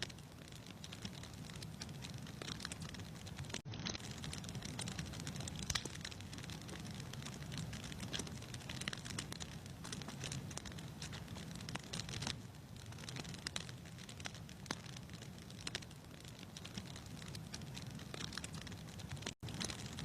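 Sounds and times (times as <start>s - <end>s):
low rumble of flames: 0.0s - 20.0s
wood fire pops and snaps: 0.0s - 20.0s.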